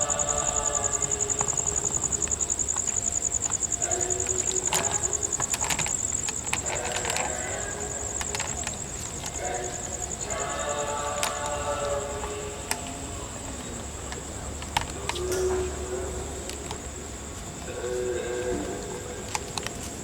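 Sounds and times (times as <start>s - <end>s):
scattered clicks: 0.0s - 17.0s, 18.7s - 20.0s
insects chirring: 0.0s - 20.0s.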